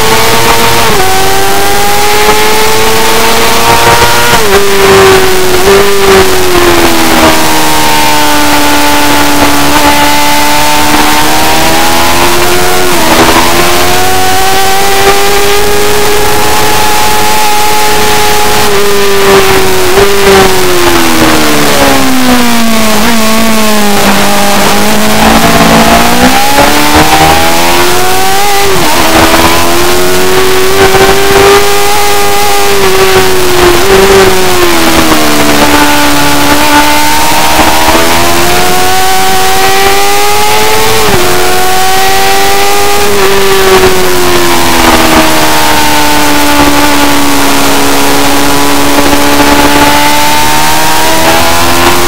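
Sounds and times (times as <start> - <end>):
superbike engine revving: 0.0 - 52.0.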